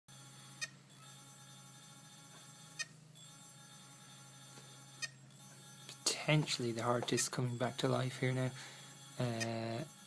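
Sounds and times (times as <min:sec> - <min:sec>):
hard disk motor whine: 0:00.1 - 0:10.0.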